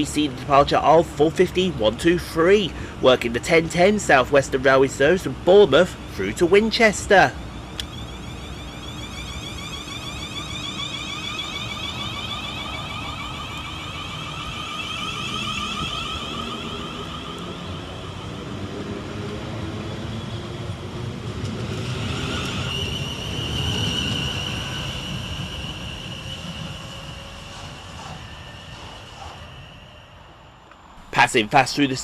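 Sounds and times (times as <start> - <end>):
electric train traction whine: 0.0 - 31.1
train running noise: 0.0 - 32.0.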